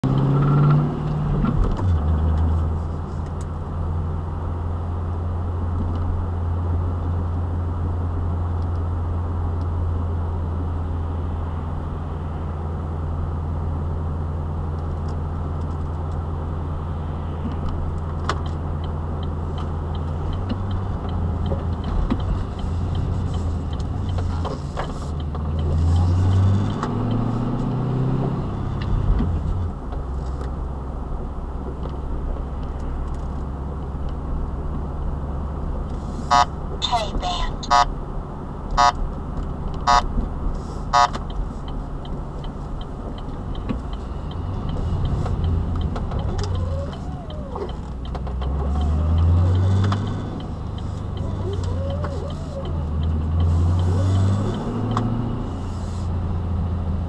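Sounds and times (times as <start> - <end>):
car engine and tyre noise: 0.0 - 57.0.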